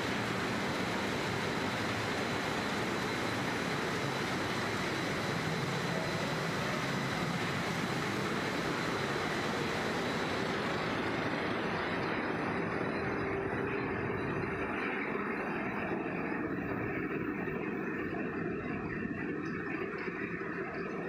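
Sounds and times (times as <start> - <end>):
production line machinery noise: 0.0 - 19.3
faint high whine: 0.0 - 21.0.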